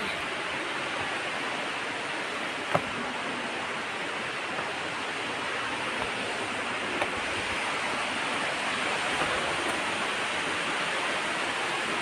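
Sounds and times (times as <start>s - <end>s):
distant waterfall rushing: 0.0s - 12.0s.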